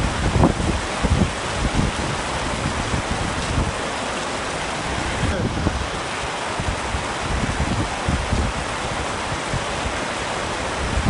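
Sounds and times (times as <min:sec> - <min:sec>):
heavy rain on a tent: 0:00.0 - 0:11.0
low rumbles: 0:00.0 - 0:11.0.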